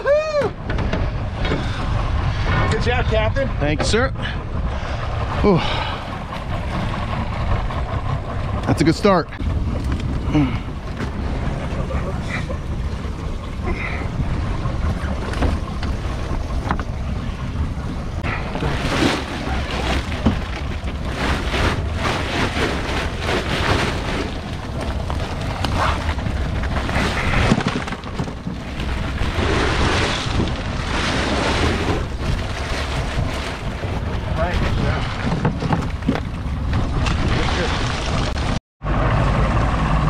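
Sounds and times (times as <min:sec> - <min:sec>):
boat engine rumble: 0:00.0 - 0:40.0
wind buffeting microphone: 0:00.0 - 0:40.0.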